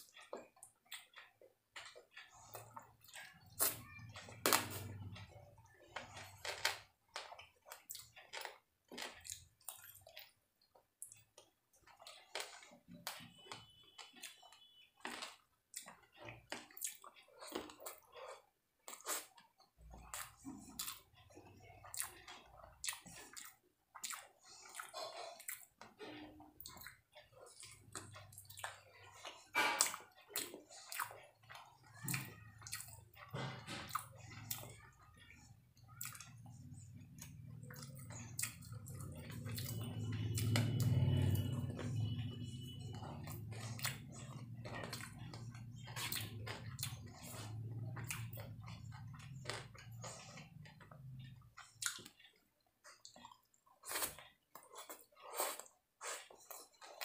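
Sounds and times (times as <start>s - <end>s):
wet chewing and mouth clicks: 0.0s - 57.0s.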